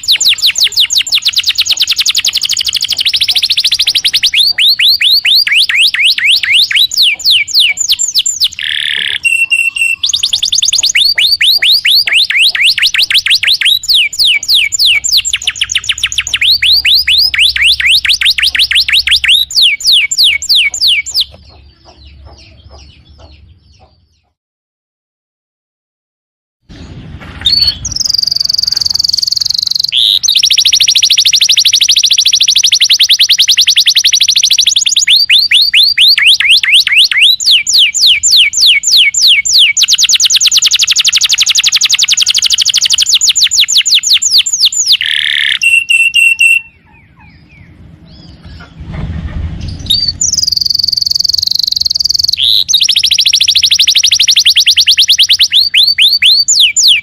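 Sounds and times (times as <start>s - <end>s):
canary trilling song: 0.0s - 24.4s, 26.8s - 48.9s, 49.6s - 57.0s.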